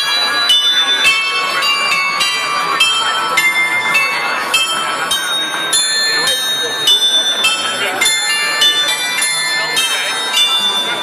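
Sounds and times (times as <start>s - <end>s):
bell glockenspiel playing a tune: 0.0s - 11.0s.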